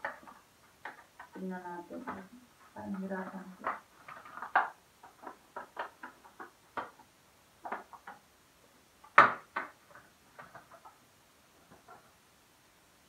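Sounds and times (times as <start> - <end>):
plastic packaging clicks and crinkles: 0.0 - 8.3, 9.0 - 12.2.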